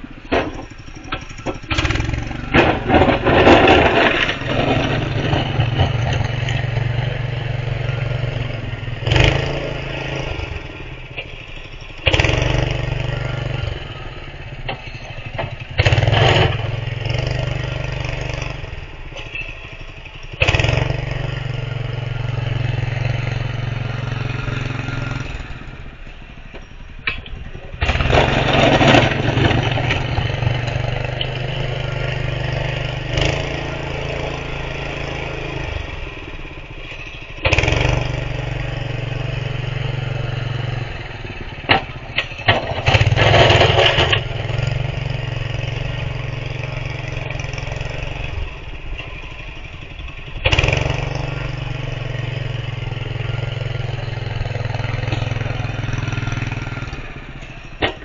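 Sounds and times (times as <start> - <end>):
snow plow engine running: 0.0 - 58.0.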